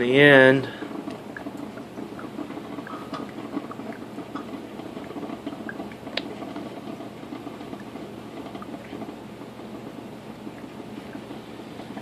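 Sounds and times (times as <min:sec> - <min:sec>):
coffee maker gurgling: 0:00.0 - 0:12.0.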